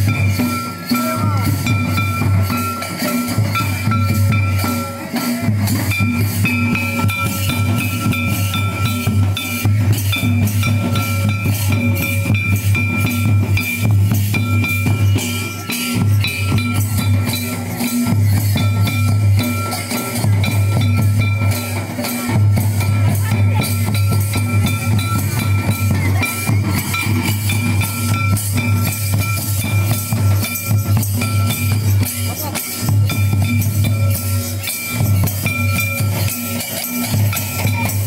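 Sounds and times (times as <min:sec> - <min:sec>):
drums in fast rhythm: 0:00.0 - 0:38.0
steady ringing tone: 0:00.0 - 0:38.0.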